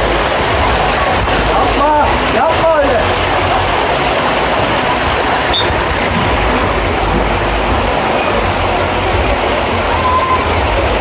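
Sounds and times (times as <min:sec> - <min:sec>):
water running down slides: 0:00.0 - 0:11.0.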